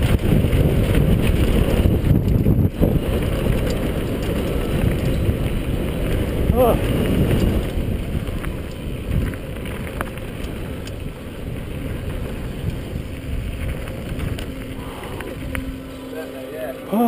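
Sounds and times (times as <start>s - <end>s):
bike clicks and rattles: 0.0s - 16.1s
wind buffeting microphone: 0.0s - 16.9s
bike tyres rumbling on dirt: 0.0s - 17.0s.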